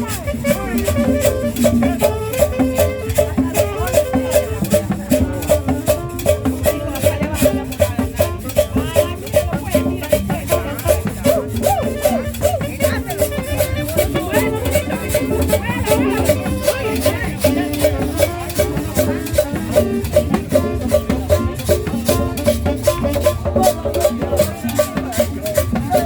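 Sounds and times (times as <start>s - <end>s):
latin dance music: 0.0s - 26.0s.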